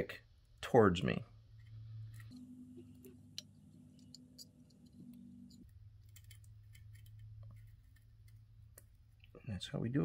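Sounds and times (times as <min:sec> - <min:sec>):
faint low electrical hum: 0:00.0 - 0:10.0.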